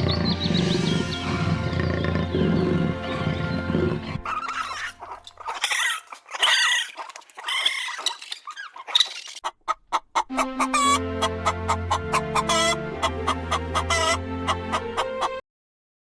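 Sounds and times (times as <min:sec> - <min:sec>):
chickens clucking: 0:00.0 - 0:15.4.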